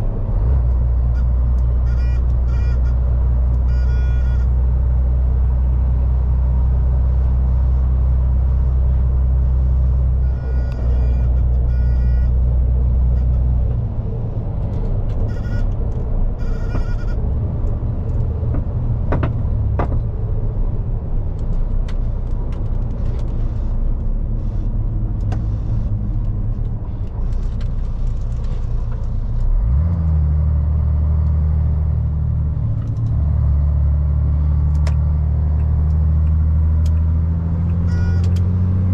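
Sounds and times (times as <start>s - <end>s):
lorry diesel engine running: 0.0s - 38.9s.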